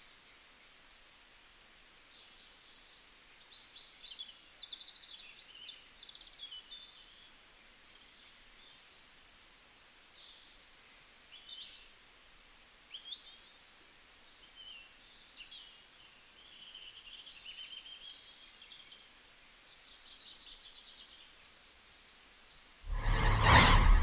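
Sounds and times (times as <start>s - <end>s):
faint steady hiss: 0.0s - 22.8s.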